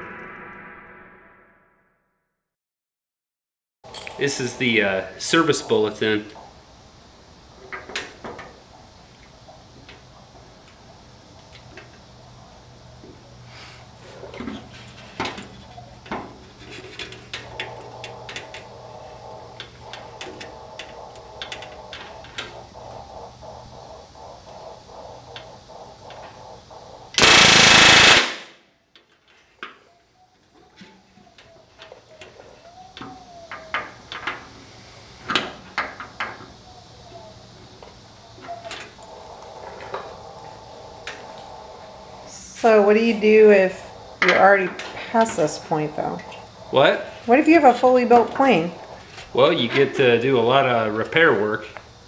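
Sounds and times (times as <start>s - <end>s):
steady low hum: 3.9s - 29.0s, 29.8s - 52.0s.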